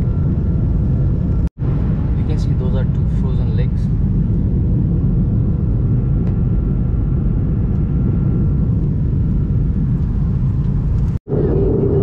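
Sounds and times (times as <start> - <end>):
airliner cabin low rumble: 0.0 - 12.0.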